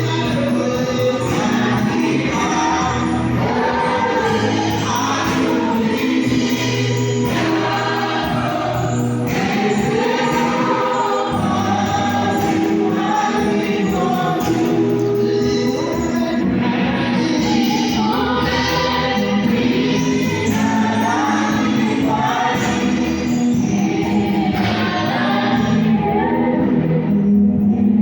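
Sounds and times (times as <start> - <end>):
choir singing gospel: 0.0 - 28.0
held bass notes: 0.0 - 28.0.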